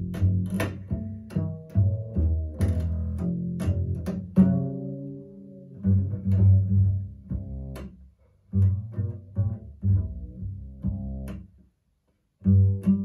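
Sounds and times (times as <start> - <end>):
plucked double bass notes: 0.0 - 11.6, 12.4 - 13.0.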